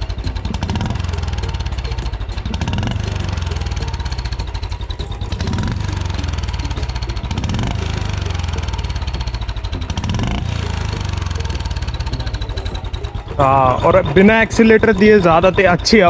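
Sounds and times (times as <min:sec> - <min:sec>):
faint whistling chirp: 0:00.0 - 0:16.0
motorcycle engine idling: 0:00.0 - 0:16.0.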